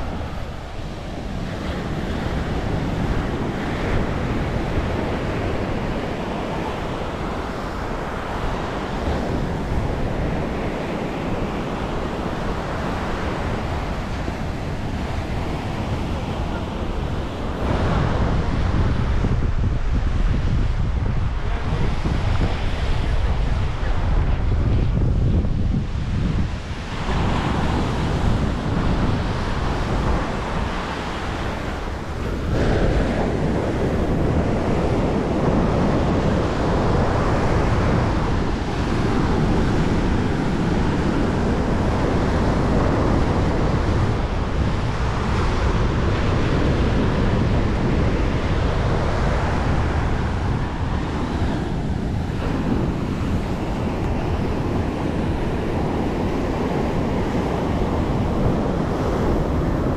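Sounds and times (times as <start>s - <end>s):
ocean surf on sandy beach: 0.0s - 59.9s
wind buffeting microphone: 0.0s - 59.9s.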